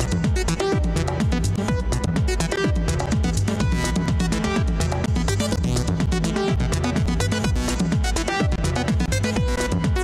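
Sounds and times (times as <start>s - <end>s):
electronic music with pulsing bass: 0.0s - 10.0s.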